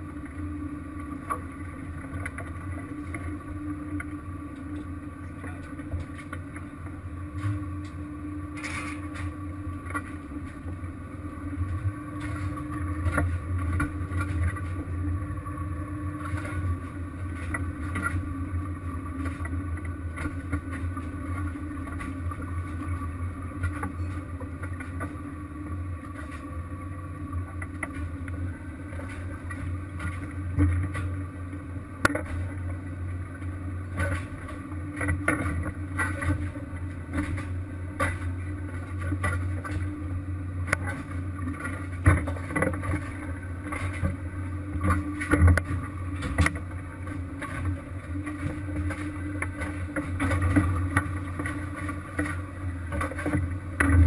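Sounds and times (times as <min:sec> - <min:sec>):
boat engine and deck machinery drone: 0:00.0 - 0:54.0.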